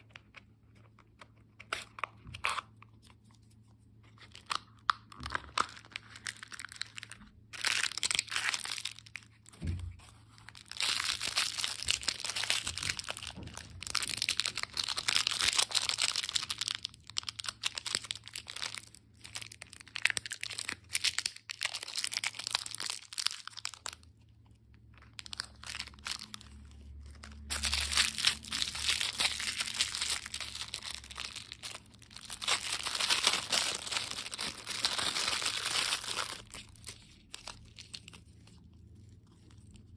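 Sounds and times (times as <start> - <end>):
plastic wrappers crinkling: 4.1 - 39.9
wrappers being torn open: 4.2 - 9.5, 10.4 - 24.0, 24.8 - 39.9.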